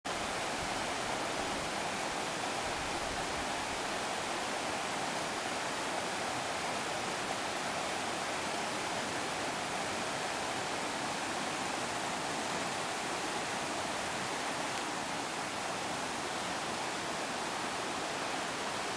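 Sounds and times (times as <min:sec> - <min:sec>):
river rapids rushing: 0:00.1 - 0:18.9.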